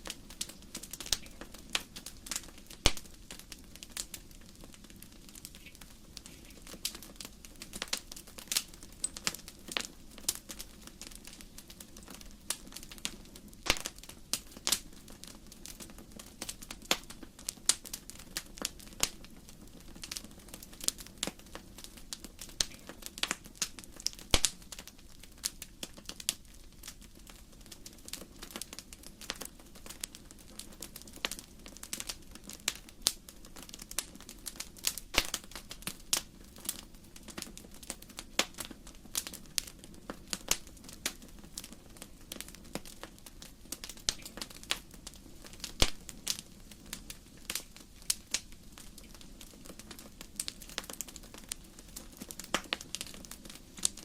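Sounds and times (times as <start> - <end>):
firewood crackling and popping: 0.0 - 54.0.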